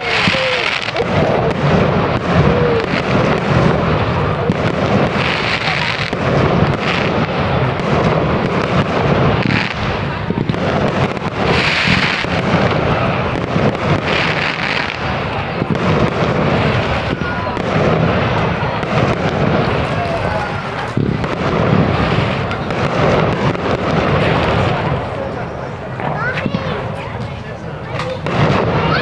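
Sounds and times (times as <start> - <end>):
fireworks deep bangs: 0.0 - 29.0
fizzing crackle of fireworks: 0.0 - 29.0.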